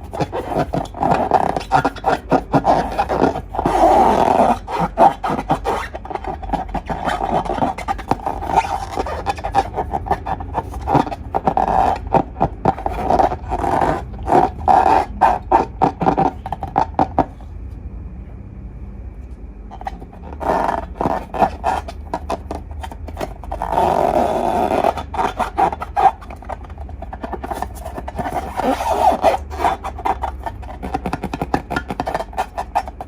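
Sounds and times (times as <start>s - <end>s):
slime squishing by hand: 0.0s - 17.5s, 19.8s - 33.0s.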